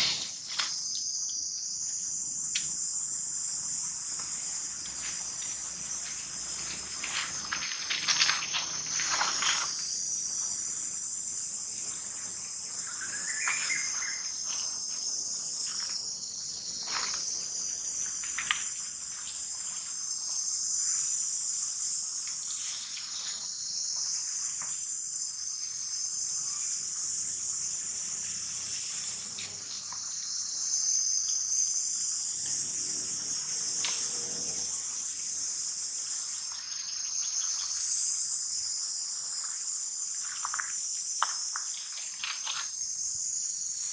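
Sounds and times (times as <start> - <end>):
high-pitched insect chorus: 0.0 - 43.9
rustles of dry leaves: 3.6 - 26.2, 26.9 - 30.2, 33.7 - 43.5.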